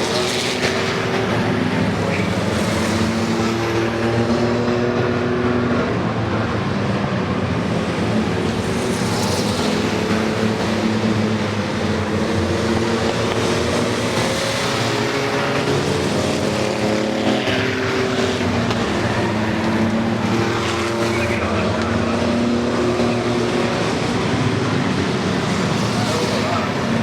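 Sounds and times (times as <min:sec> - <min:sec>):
race truck engines: 0:00.0 - 0:27.0.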